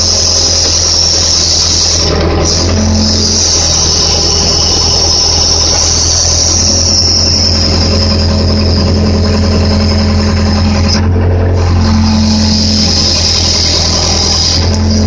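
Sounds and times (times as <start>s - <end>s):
diesel engine running under load: 0.0s - 15.0s
high whine: 0.0s - 15.0s.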